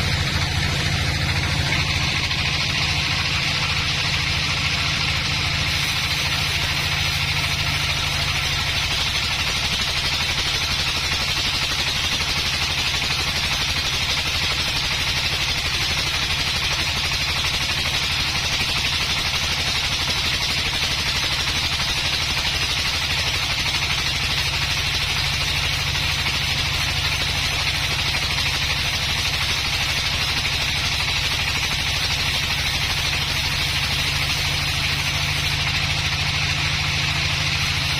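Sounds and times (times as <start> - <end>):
sawmill engine running: 0.0 - 37.9.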